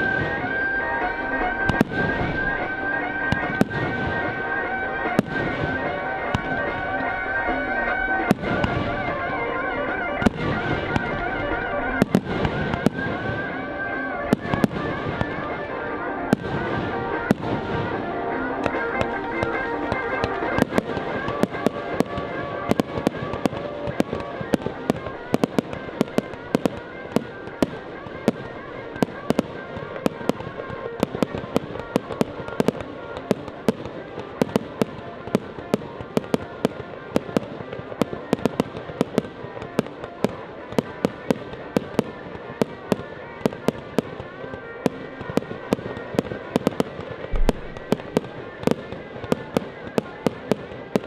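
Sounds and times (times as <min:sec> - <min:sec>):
fireworks bangs and crackles: 0:00.0 - 0:51.0
music playing: 0:00.0 - 0:51.0.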